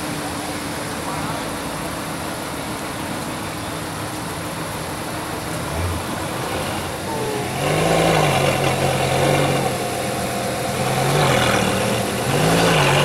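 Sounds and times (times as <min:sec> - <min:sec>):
sports car engine idling and revving: 0:00.0 - 0:13.0.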